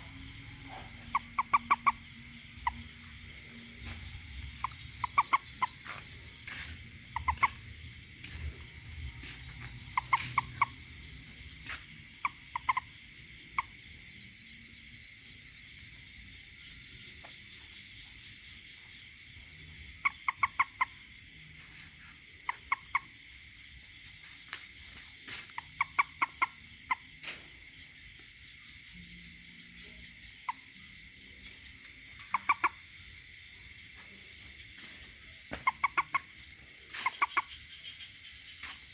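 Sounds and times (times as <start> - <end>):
toad croaking: 0.0 - 14.1, 15.9 - 38.9.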